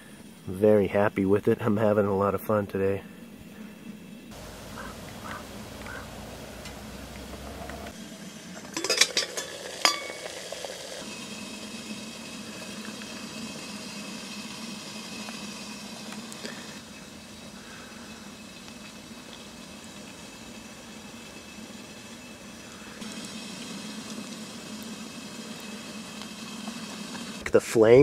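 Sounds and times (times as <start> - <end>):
wood fire hissing: 0.0 - 1.8, 2.8 - 28.0.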